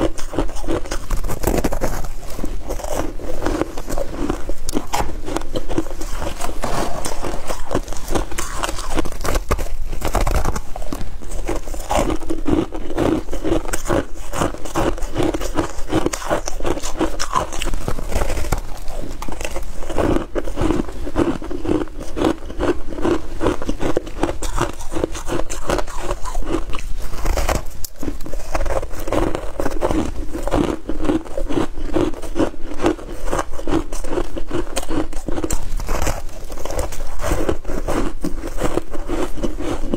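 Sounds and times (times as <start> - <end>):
chewing frost crunching: 0.0 - 39.9.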